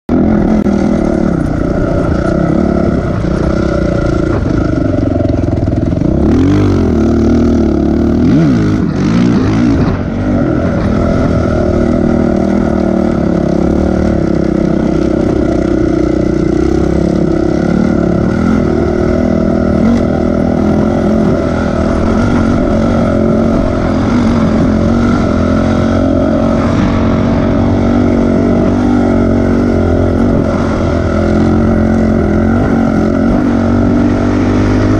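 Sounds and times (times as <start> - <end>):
off-road vehicle engine revving: 0.1 - 34.9.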